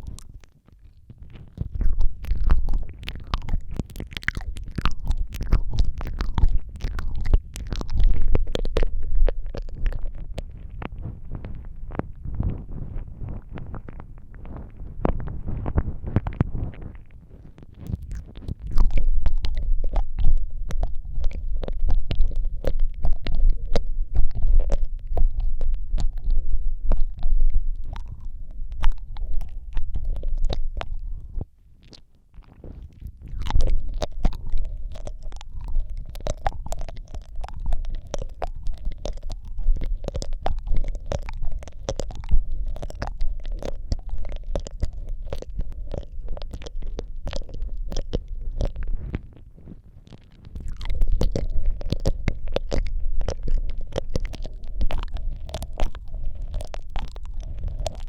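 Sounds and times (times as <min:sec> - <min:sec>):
lip smacks: 0:00.0 - 0:58.0
tongue clicks and licking: 0:00.0 - 0:58.0
low rumble of breath on mic: 0:01.2 - 0:31.6, 0:32.4 - 0:58.0.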